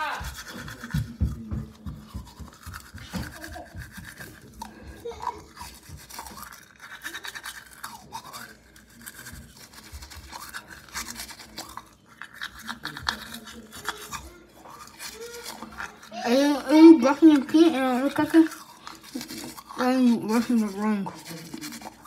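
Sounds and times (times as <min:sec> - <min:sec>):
toothbrush scrubbing teeth: 0:00.0 - 0:22.0.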